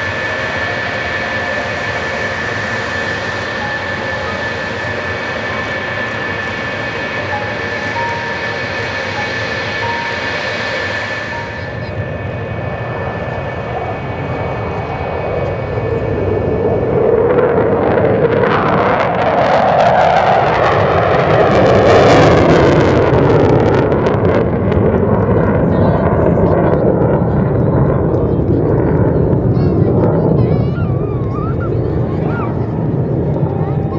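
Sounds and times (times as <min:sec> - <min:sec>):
aircraft engine roar: 0:00.0 - 0:33.9
military aircraft engine whine: 0:00.0 - 0:33.9.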